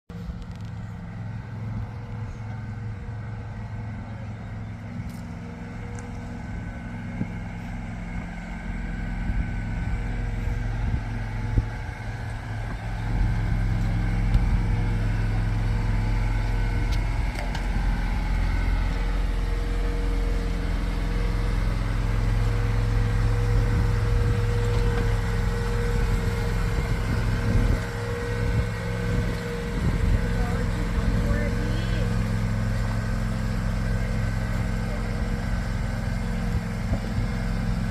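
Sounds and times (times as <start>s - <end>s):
vehicle engine running: 0.0s - 37.9s.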